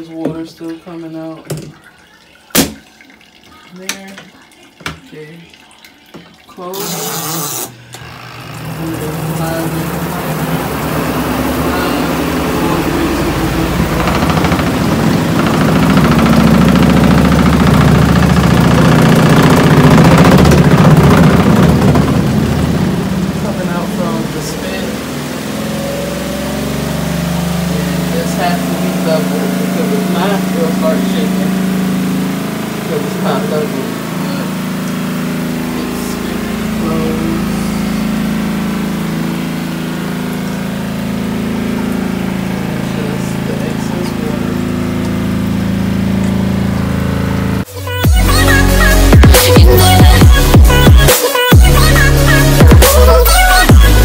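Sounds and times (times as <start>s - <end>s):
spin dryer motor hum: 6.5s - 54.0s.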